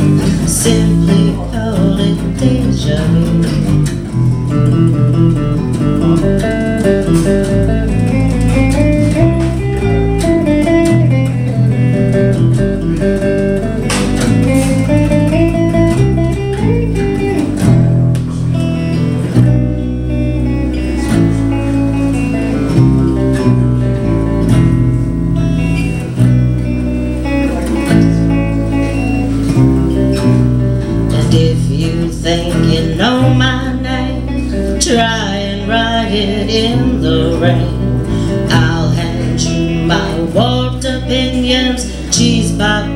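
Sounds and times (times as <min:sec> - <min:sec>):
bass guitar line: 0:00.0 - 0:42.9
electric guitar lead melody: 0:00.0 - 0:42.9.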